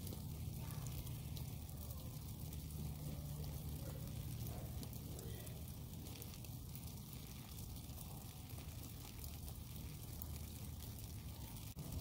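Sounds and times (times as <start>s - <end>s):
light rain dripping: 0.0s - 12.0s
low steady rumble: 0.0s - 12.0s.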